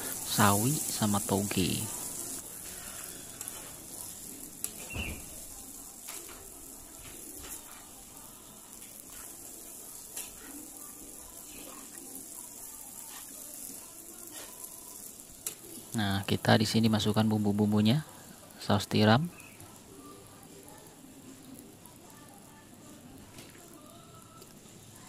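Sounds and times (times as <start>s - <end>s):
food sizzling in a wok: 0.0s - 25.0s.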